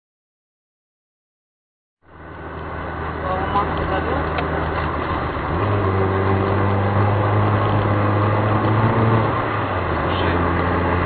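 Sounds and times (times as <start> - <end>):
car engine and road noise: 2.0 - 11.0.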